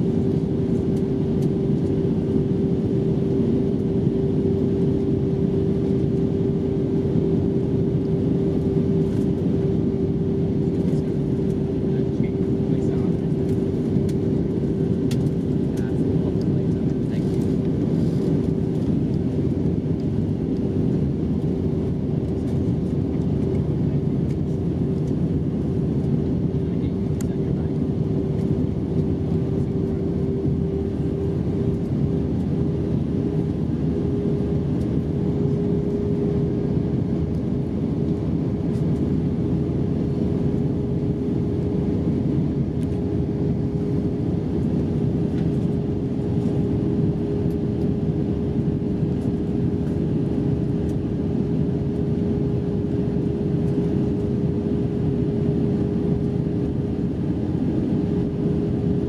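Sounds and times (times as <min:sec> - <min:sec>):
airplane cabin airflow and engines: 0:00.0 - 0:59.0
constant hum: 0:00.0 - 0:59.0.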